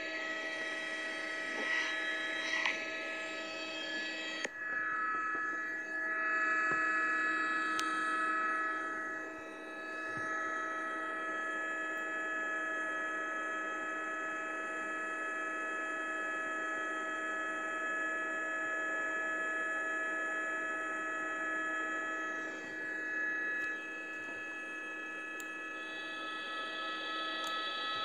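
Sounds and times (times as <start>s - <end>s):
electronic hum of held tones: 0.0s - 28.0s.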